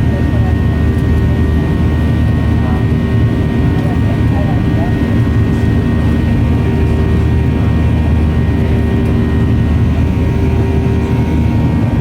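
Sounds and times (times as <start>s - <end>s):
jet engine drone in cabin: 0.0s - 12.0s
steady hums: 0.0s - 12.0s.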